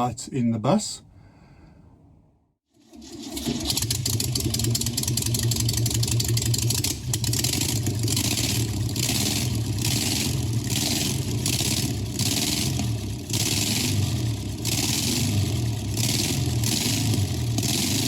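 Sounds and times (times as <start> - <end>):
engine droning: 2.9 - 18.0.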